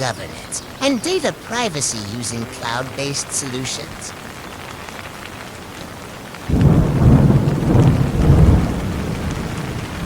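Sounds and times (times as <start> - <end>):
rain hissing: 0.0 - 10.0
thunder rumbling: 0.7 - 10.0.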